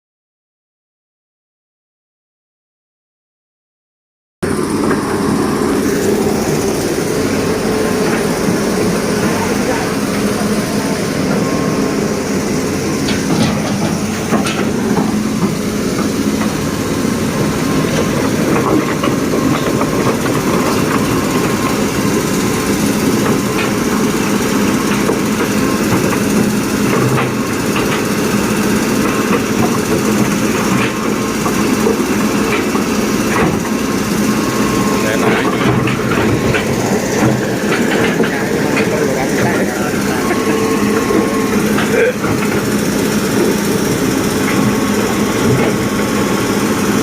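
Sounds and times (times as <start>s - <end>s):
heavy machine engine running: 4.4s - 47.0s.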